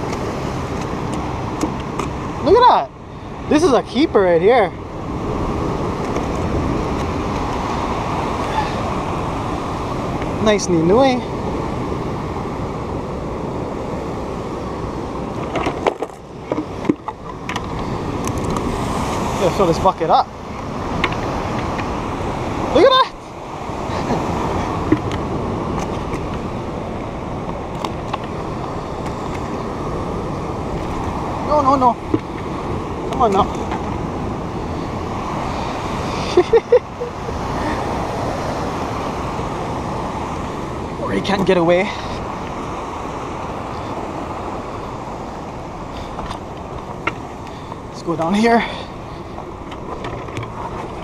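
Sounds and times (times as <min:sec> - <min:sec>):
surf: 0:00.0 - 0:51.0
wind on microphone: 0:00.0 - 0:51.0.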